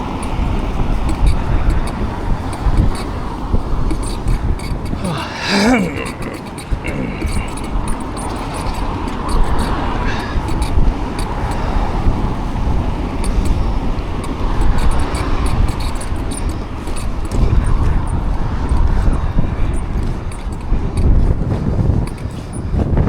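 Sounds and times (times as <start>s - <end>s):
traffic: 0.0s - 23.0s
wind and road noise: 0.0s - 23.0s.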